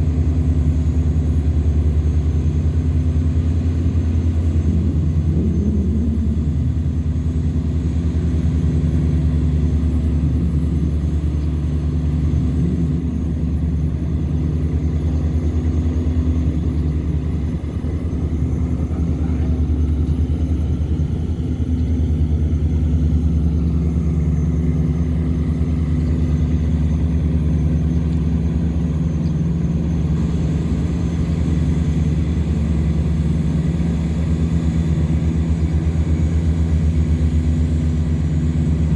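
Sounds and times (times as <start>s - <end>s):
tugboat engine droning: 0.0s - 38.9s.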